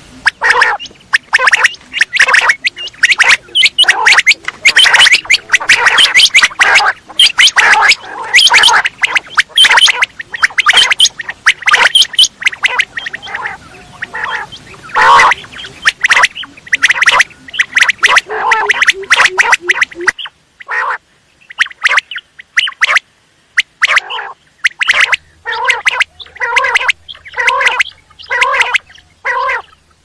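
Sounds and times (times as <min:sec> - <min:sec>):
quail calling: 0:00.0 - 0:23.0, 0:23.6 - 0:30.0.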